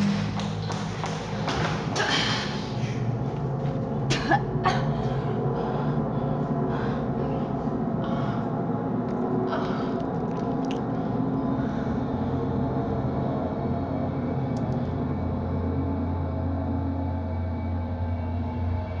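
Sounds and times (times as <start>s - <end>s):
low drone: 0.0s - 19.0s.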